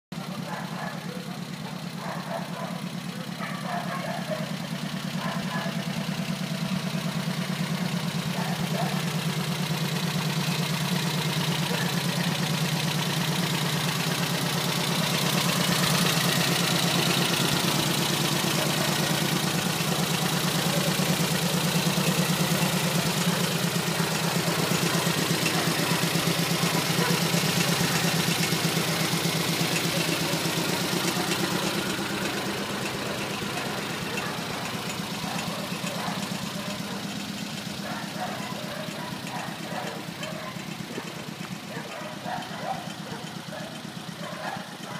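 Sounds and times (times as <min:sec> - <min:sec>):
engine idling: 0:00.1 - 0:44.9.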